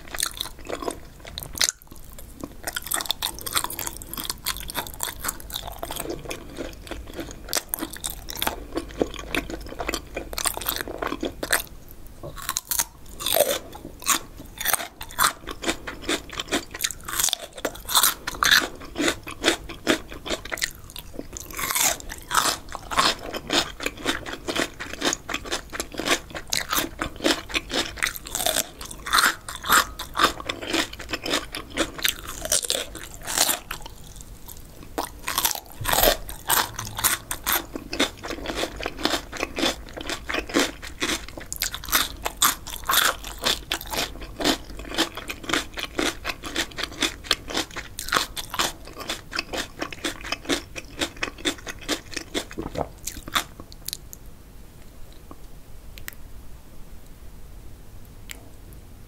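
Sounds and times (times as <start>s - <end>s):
biting and chewing cucumber: 0.0s - 54.1s.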